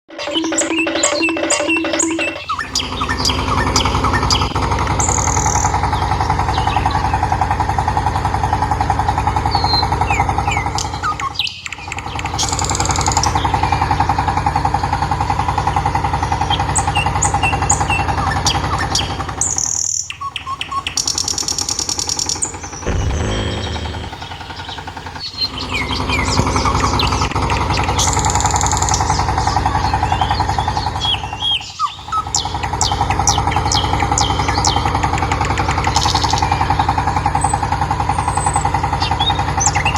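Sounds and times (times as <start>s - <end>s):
birds chirping: 0.1s - 39.9s
buzzing mechanical hum: 0.2s - 39.9s.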